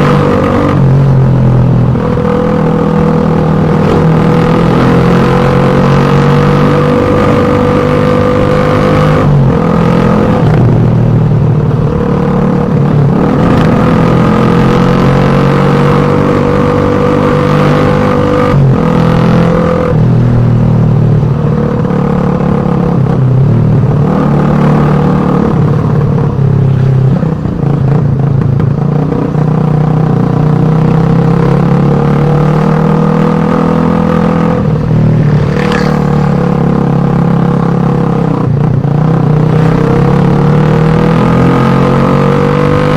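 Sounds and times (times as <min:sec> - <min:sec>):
motorcycle exhaust running: 0:00.0 - 0:42.9.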